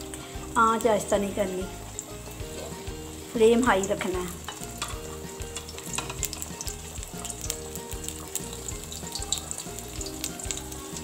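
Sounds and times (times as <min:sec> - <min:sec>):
background music: 0:00.0 - 0:11.0
eggs sizzling in hot oil: 0:00.0 - 0:11.0.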